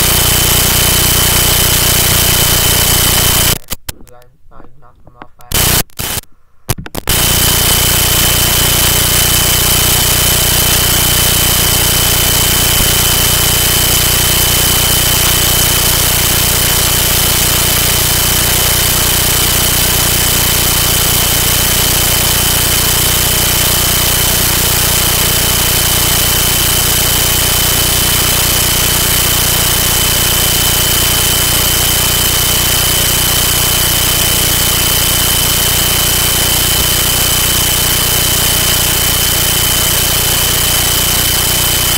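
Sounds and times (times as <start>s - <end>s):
loud static hiss: 0.0s - 4.1s, 5.0s - 41.9s
steady high whine: 0.0s - 4.1s, 5.2s - 41.9s.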